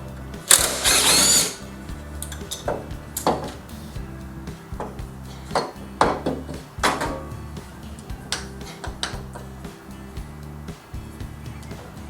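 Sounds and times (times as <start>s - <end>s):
instrumental music with sustained chords: 0.0s - 12.0s.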